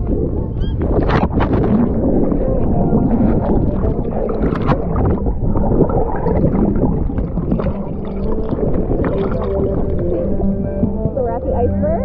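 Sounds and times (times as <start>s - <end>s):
water sloshing and splashing: 0.0s - 11.6s.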